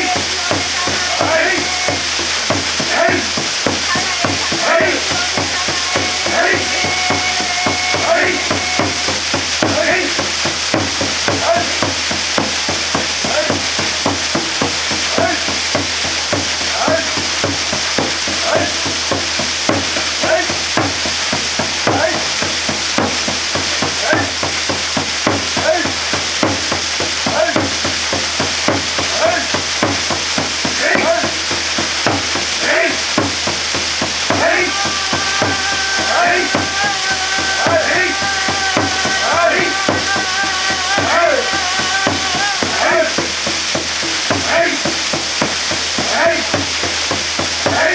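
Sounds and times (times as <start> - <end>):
small water splashes: 0.0 - 47.9
waterfall rushing onto rock: 0.0 - 47.9.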